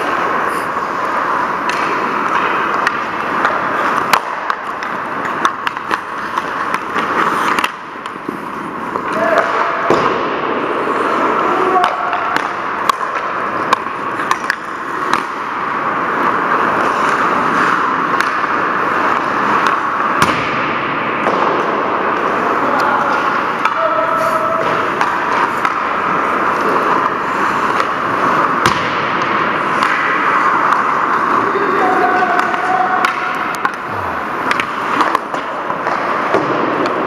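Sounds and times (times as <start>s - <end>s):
skate blades scraping ice: 0.0s - 9.9s, 10.6s - 37.0s
hockey sticks and puck clacking: 0.0s - 37.0s.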